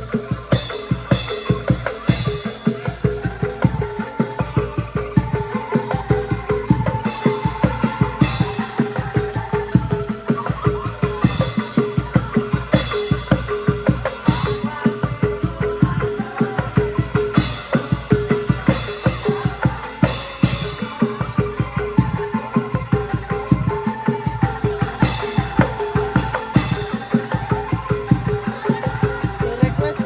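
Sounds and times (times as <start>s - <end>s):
steady drum beat: 0.0s - 30.0s.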